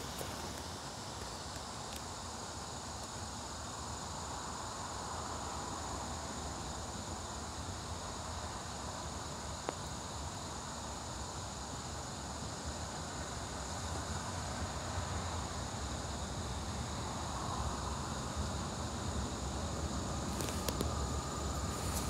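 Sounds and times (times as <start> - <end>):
crickets droning: 0.0 - 22.0.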